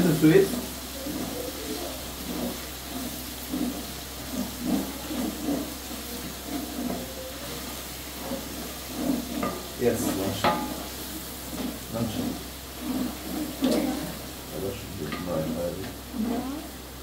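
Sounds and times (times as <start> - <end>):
hiss of cooking: 0.0 - 17.0
wooden spatula stirring in pot: 0.0 - 17.0.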